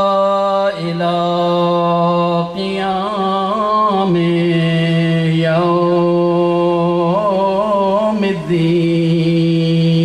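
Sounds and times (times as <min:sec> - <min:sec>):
man chanting in long notes: 0:00.0 - 0:10.0.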